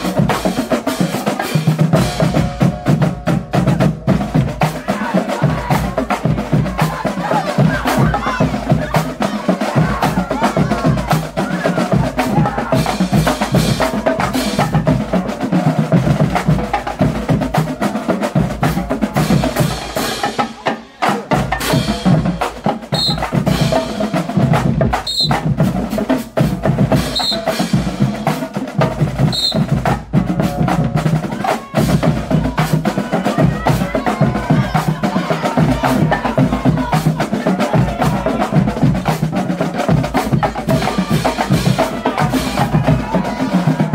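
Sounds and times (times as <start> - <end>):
snare and bass drums cadence: 0.0 - 43.9.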